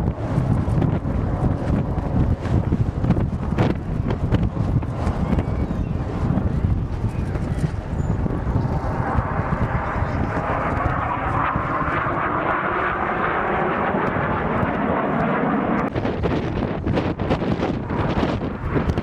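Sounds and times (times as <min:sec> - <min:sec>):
aircraft flying past: 0:00.0 - 0:19.0
wind rumble on microphone: 0:00.0 - 0:19.0.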